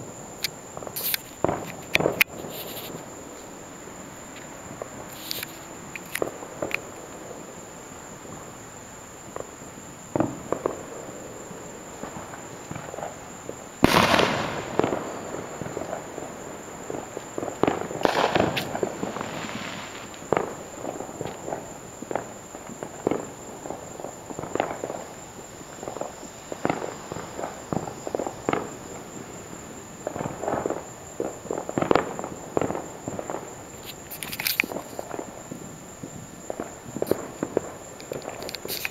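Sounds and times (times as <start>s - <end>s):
firecracker crackling: 0.0s - 38.9s
fireworks bangs and pops: 0.0s - 38.9s.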